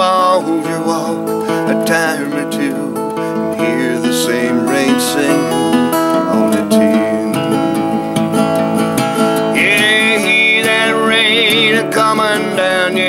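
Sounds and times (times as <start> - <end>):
person singing wordlessly: 0.0 - 7.8, 9.5 - 13.0
acoustic guitar strumming: 0.0 - 13.0.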